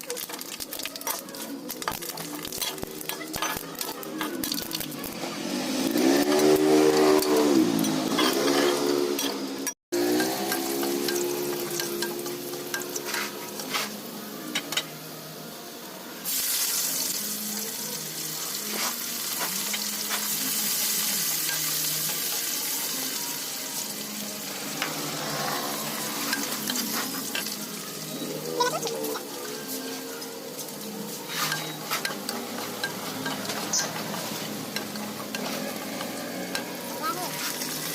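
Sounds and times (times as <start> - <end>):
food sizzling in hot oil: 0.0 - 37.9.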